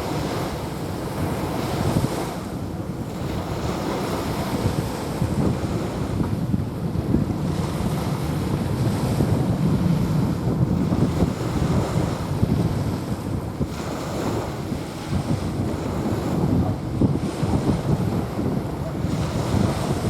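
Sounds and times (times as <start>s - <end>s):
waves washing onto beach: 0.0s - 20.0s
wind rumbling on microphone: 0.0s - 20.0s.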